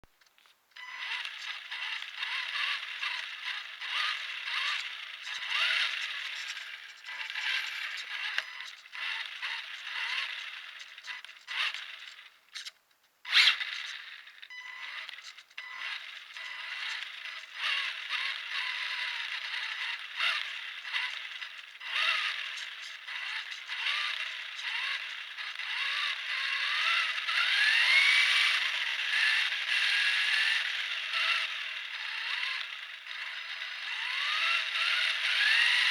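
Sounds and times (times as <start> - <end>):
toy car gears rattling and scraping: 0.3 - 12.7, 13.3 - 35.9.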